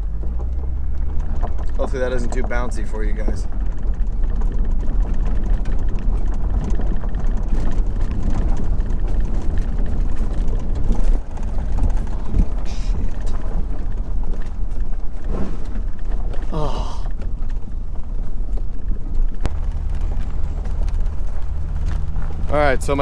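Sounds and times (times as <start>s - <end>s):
car engine rumble: 0.0s - 23.0s
knocks and rattles from bumps: 0.0s - 23.0s
tyre and road noise: 0.0s - 23.0s.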